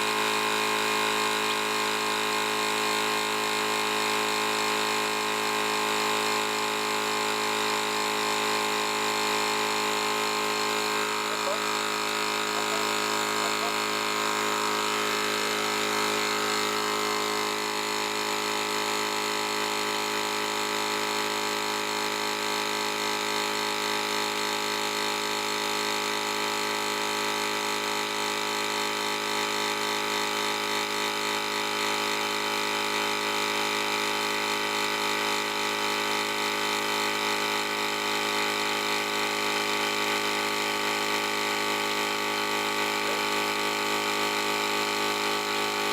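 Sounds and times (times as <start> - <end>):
air compressor running: 0.0 - 45.9.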